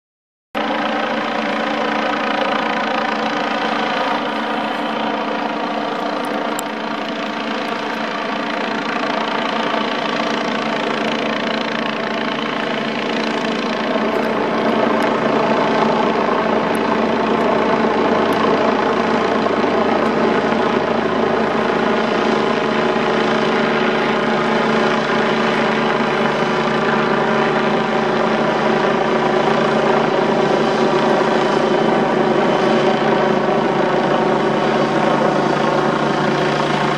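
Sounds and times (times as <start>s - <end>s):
helicopter hovering: 0.6s - 36.9s.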